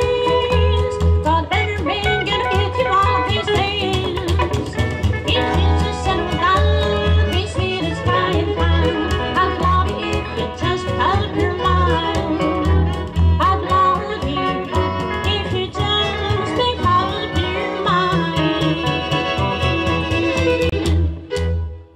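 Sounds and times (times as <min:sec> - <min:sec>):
electric guitar melody with vibrato: 0:00.0 - 0:21.9
upright bass plucking: 0:00.0 - 0:21.9.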